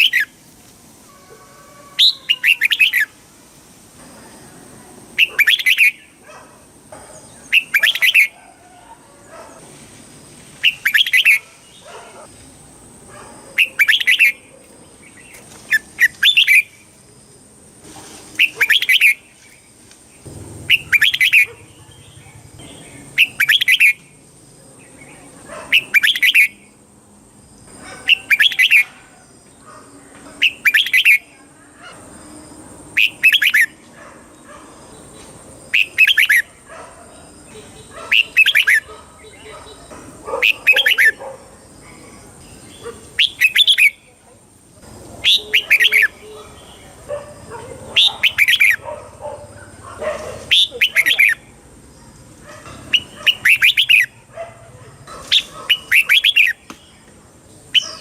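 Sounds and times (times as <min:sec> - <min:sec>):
bird chirping song: 0:00.0 - 0:00.4, 0:01.9 - 0:03.2, 0:05.1 - 0:06.3, 0:06.9 - 0:09.6, 0:10.6 - 0:17.0, 0:18.4 - 0:26.8, 0:27.8 - 0:31.4, 0:33.0 - 0:44.4, 0:45.2 - 0:54.4, 0:55.1 - 0:58.0.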